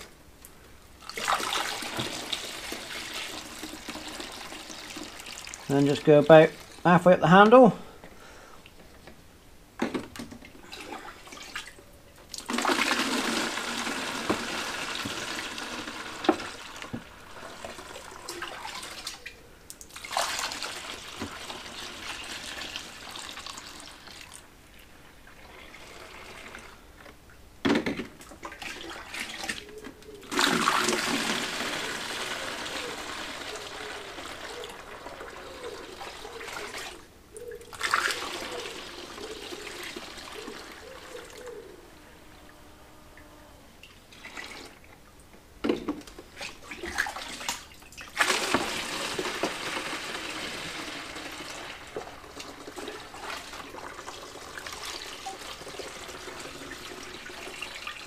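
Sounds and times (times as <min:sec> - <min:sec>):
liquid gushing into bottles: 0:01.0 - 0:07.6, 0:10.6 - 0:24.4, 0:25.3 - 0:26.9, 0:28.3 - 0:41.6, 0:43.8 - 0:44.9, 0:46.3 - 0:58.0.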